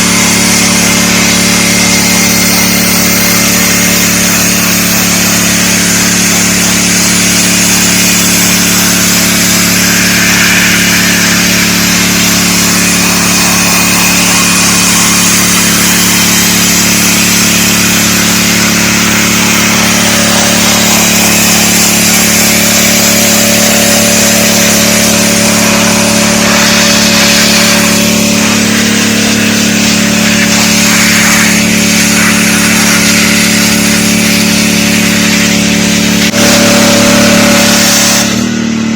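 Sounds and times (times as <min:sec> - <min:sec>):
high-pressure water spray hissing: 0:00.0 - 0:38.9
pressure washer engine hum: 0:00.0 - 0:38.9.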